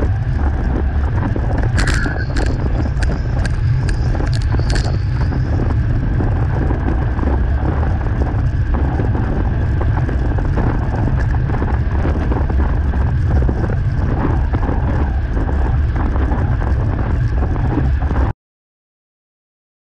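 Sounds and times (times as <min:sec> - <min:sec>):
wind buffeting microphone: 0:00.0 - 0:18.3.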